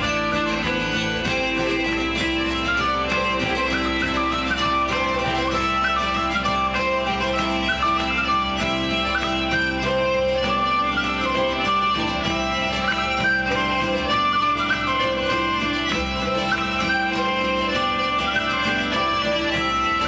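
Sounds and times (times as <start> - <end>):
hurdy-gurdy drone: 0.0 - 20.0
strummed acoustic guitar: 0.0 - 20.0
whistle playing melody: 0.0 - 20.0.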